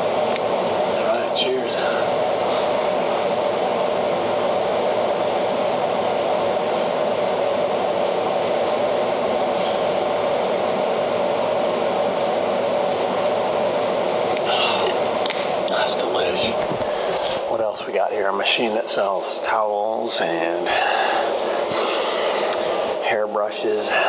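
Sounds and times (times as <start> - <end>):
loud droning noise: 0.0 - 24.0.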